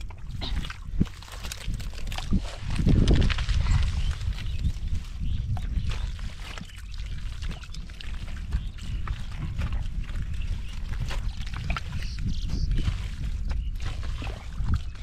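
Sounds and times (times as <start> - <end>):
steady low rumble: 0.0 - 15.0
water and mud splashing: 0.0 - 15.0.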